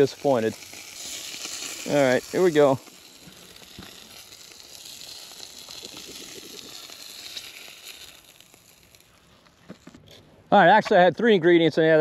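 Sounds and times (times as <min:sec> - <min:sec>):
fish sizzling in a skillet: 0:00.0 - 0:09.8.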